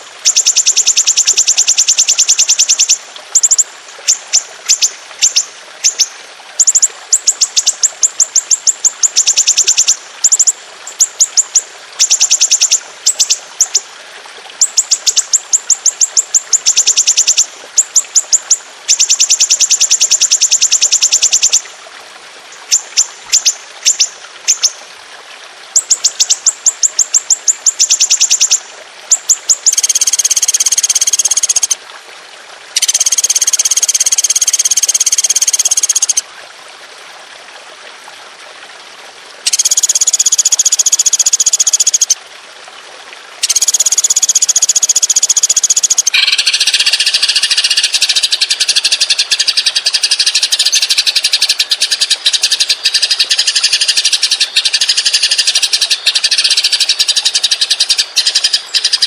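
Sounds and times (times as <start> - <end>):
songbird high-pitched trills: 0.2 - 13.8, 14.6 - 21.6, 25.8 - 31.8, 32.8 - 36.2, 39.5 - 42.2, 43.4 - 59.0.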